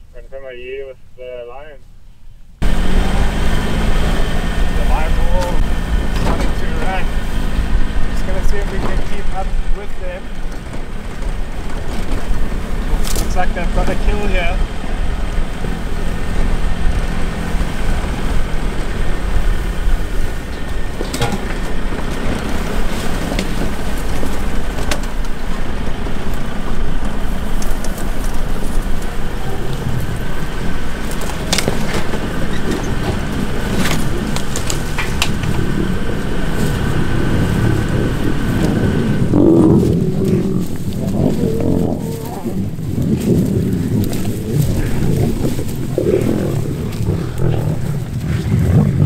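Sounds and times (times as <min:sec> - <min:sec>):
vehicle engine running: 0:02.6 - 0:49.0
lion growling: 0:02.7 - 0:49.0.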